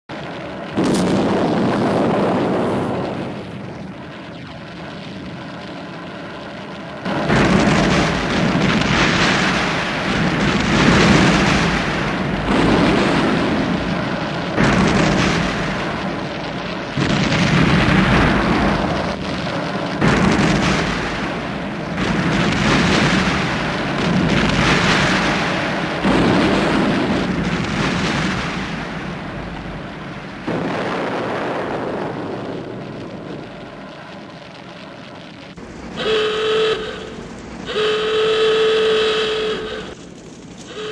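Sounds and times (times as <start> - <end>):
explosion booms: 0.1 - 36.2.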